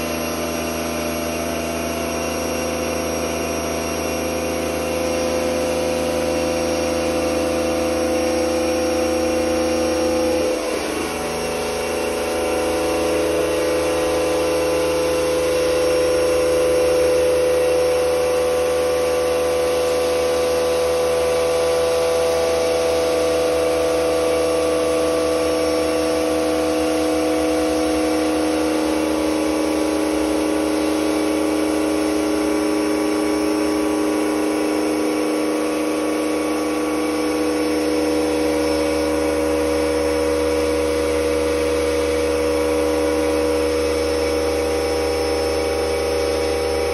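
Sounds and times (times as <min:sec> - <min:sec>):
water pump humming: 0:00.0 - 0:46.9.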